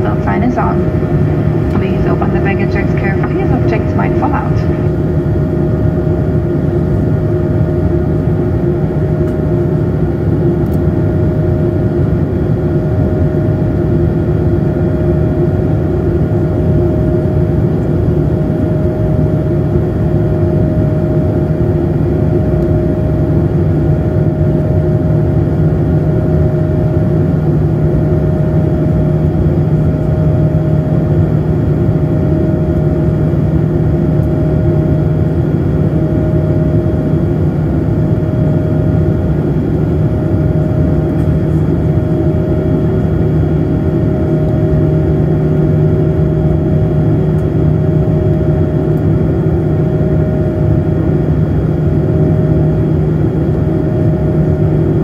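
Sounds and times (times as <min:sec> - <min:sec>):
constant hum: 0:00.0 - 0:55.0
jet engines droning: 0:00.0 - 0:55.0.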